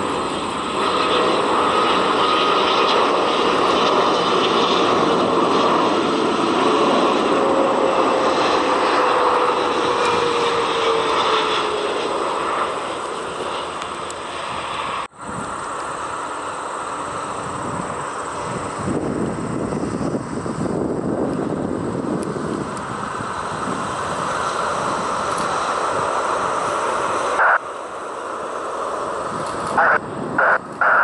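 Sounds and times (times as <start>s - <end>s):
faint jet whine: 0.0s - 31.0s
jet engines on landing approach: 0.0s - 31.0s.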